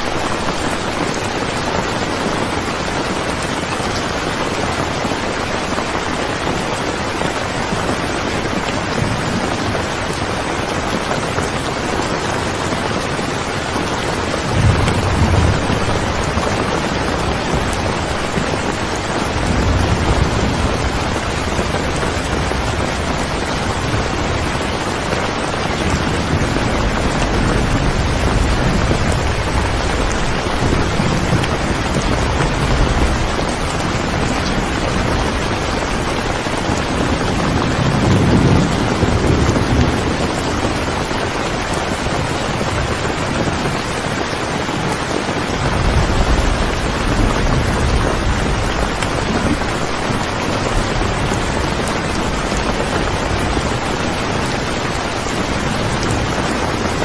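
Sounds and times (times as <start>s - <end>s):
steady rain falling: 0.0s - 57.0s
thunder rumbling: 0.0s - 57.0s.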